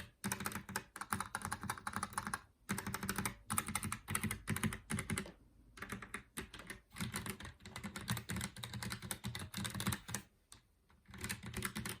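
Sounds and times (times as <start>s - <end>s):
mechanical keyboard typing: 0.0s - 10.3s, 11.0s - 12.0s.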